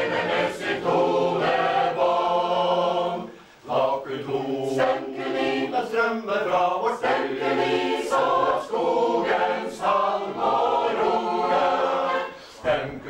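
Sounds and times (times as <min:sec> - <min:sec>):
mixed choir singing: 0:00.0 - 0:13.0.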